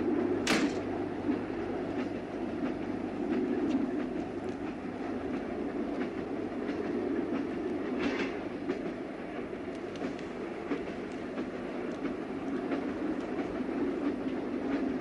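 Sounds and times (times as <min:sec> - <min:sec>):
train rumbling: 0:00.0 - 0:15.0
wheels clicking over rail joints: 0:00.4 - 0:15.0.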